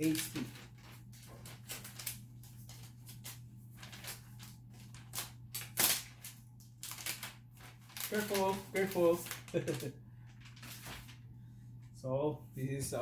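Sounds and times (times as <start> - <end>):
plastic wrapping crackling: 0.0 - 11.3.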